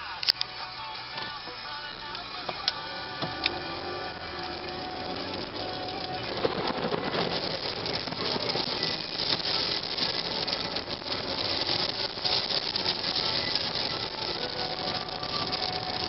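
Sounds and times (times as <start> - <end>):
heavy rain on a car roof: 2.6 - 16.0.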